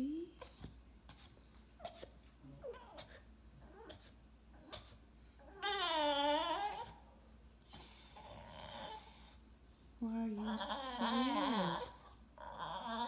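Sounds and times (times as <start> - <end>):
dog whining: 0.4 - 7.1, 7.7 - 9.4, 10.5 - 13.0.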